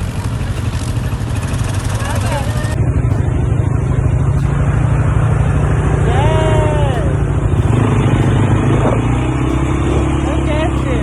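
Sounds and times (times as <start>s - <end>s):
motor engine droning: 0.0s - 11.0s.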